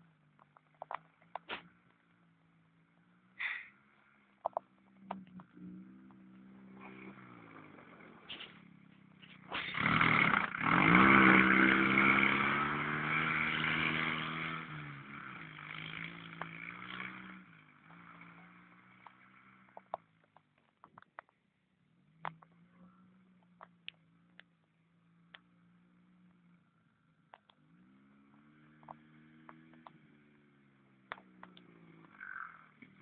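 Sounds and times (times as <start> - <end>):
dune buggy engine revving: 0.0 - 21.3, 21.9 - 33.0.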